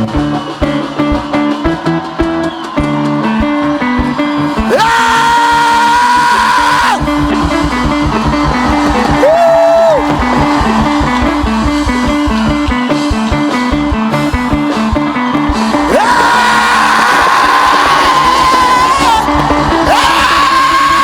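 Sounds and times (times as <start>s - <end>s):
band music with guitar and bass: 0.0s - 21.0s.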